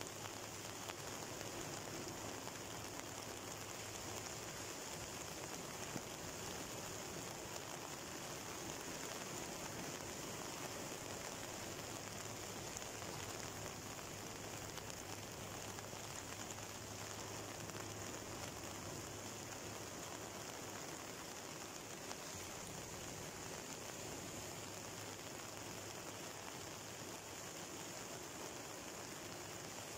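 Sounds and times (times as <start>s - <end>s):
rain: 0.0s - 29.9s.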